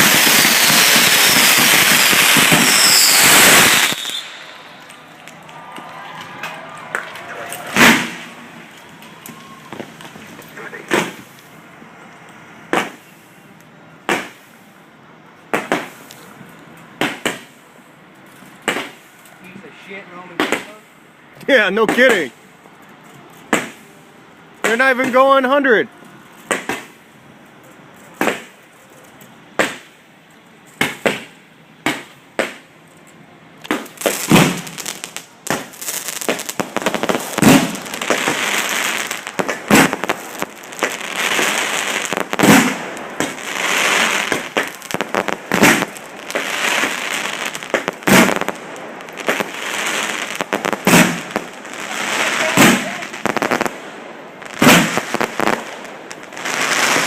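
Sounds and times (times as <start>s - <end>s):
firework bangs: 0.0s - 14.8s, 15.4s - 17.9s, 18.5s - 22.5s, 23.4s - 25.7s, 26.3s - 27.4s, 28.1s - 28.7s, 29.5s - 30.2s, 30.8s - 32.8s, 33.5s - 57.0s
firework crackling: 0.0s - 57.0s.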